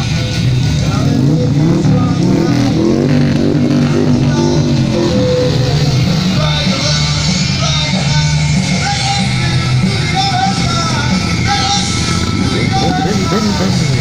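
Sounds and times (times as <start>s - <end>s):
motorcycle engines revving: 0.0s - 14.0s
music: 0.0s - 14.0s.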